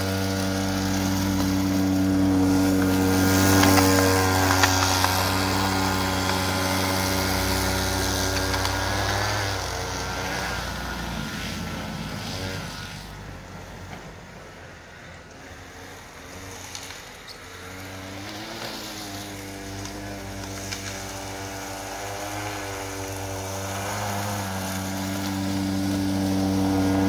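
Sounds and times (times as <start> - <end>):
snow scooter engine running: 0.0 - 27.0.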